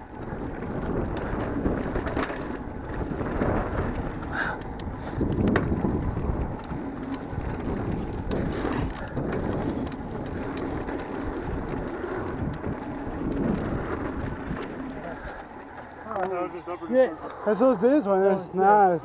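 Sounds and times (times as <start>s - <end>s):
wind rumble on microphone: 0.0s - 15.7s
bike clicking and rattling: 0.0s - 19.0s
bike tyres on dirt: 0.0s - 19.0s.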